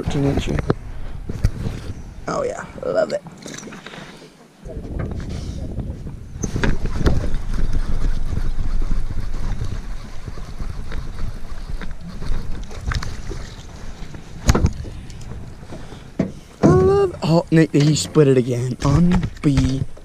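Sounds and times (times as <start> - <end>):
wind rumbling on microphone: 0.0 - 3.0, 4.6 - 20.0.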